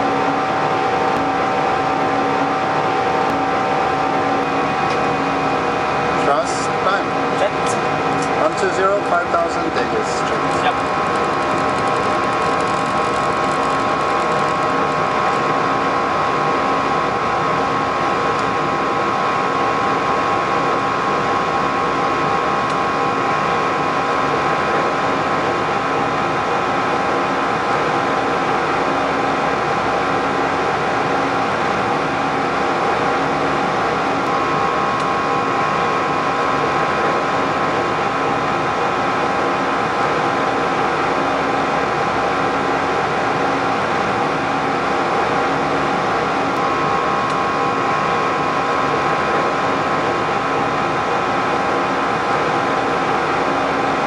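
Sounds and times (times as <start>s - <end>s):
airflow and engine rush: 0.0s - 54.0s
constant high whine: 0.0s - 54.0s.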